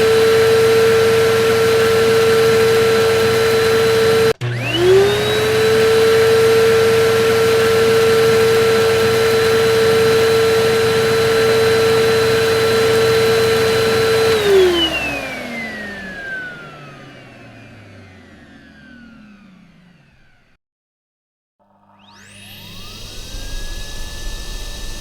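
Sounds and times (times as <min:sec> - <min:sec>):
vacuum cleaner motor whining: 0:00.0 - 0:20.6, 0:21.7 - 0:25.0.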